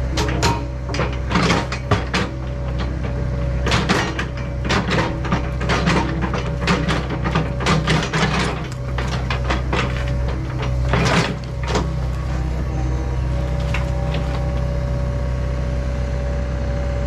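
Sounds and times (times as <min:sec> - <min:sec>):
excavator diesel engine running: 0:00.0 - 0:17.0
bucket clanks and creaks: 0:00.1 - 0:14.8.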